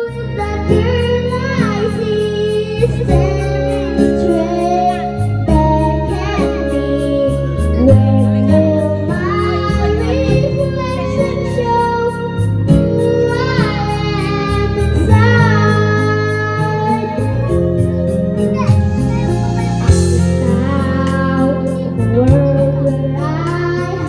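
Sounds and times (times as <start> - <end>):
girl singing into microphone: 0.0 - 24.0
instrumental backing track: 0.0 - 24.0.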